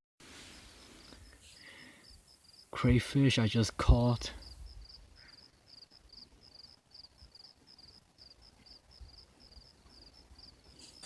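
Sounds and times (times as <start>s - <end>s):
crickets chirping: 0.4s - 11.0s.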